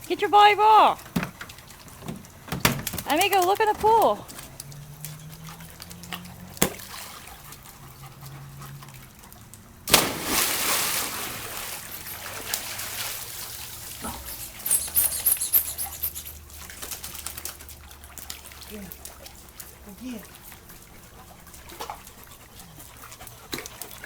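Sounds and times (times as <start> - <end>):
water sloshing: 0.0 - 24.0
dog splashing into pool: 0.4 - 24.0.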